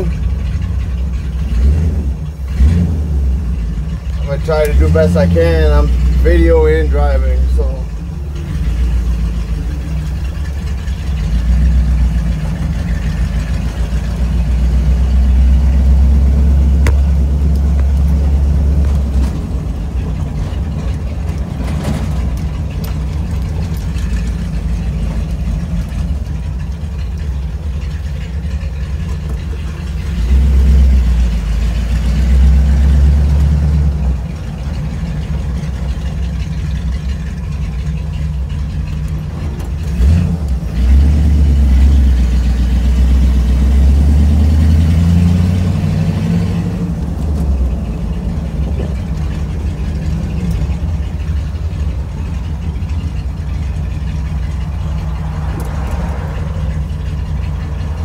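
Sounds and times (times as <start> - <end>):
truck engine drone from inside cab: 0.0 - 58.0.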